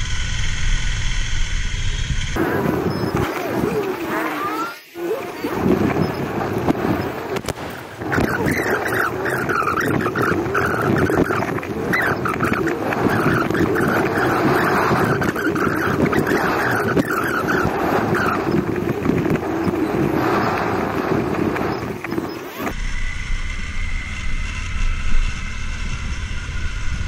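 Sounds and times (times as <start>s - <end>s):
road noise: 0.0s - 27.0s
wind noise: 0.0s - 27.0s.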